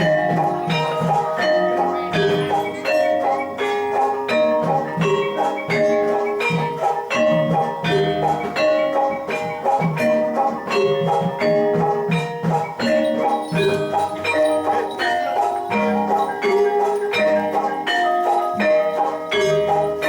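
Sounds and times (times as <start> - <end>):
steady struck beat: 0.0 - 18.6
gamelan metallophones melody: 0.0 - 20.0.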